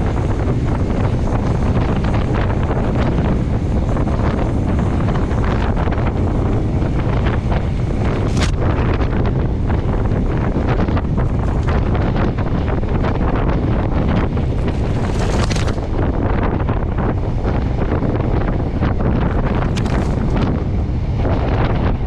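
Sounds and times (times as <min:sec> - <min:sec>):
train rumbling on rails: 0:00.0 - 0:22.0
wind buffeting microphone: 0:00.0 - 0:22.0.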